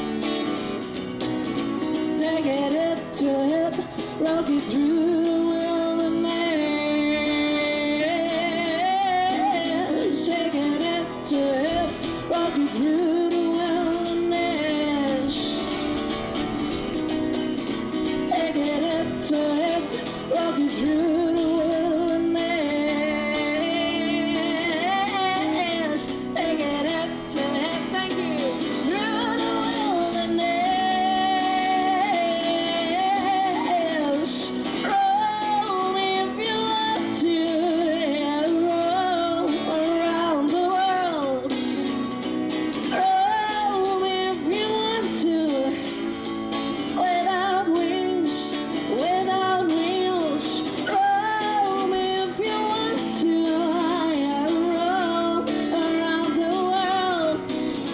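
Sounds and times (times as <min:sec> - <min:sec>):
woman singing: 0:00.0 - 0:57.9.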